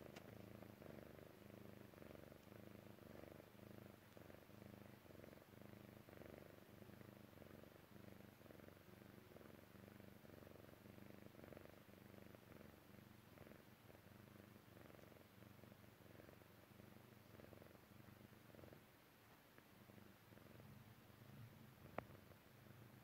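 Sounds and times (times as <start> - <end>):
cat purring softly: 0.0 - 23.0.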